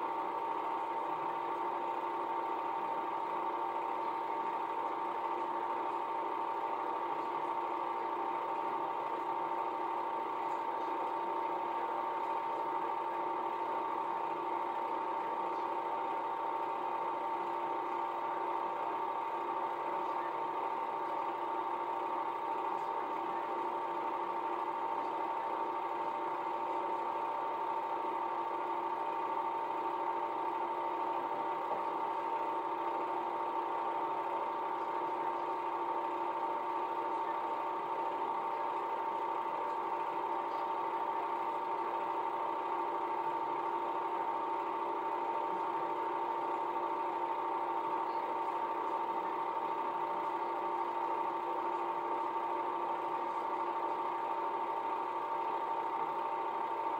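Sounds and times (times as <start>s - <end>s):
film projector whirring: 0.0s - 56.9s.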